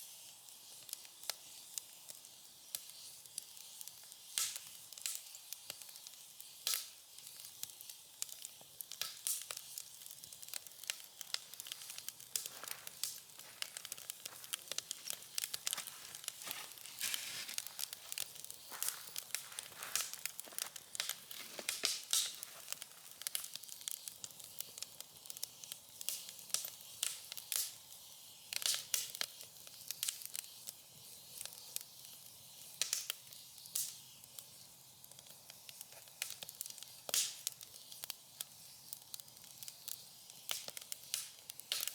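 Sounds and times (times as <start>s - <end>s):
fire hiss: 0.0s - 41.9s
firewood crackling and popping: 0.2s - 41.9s.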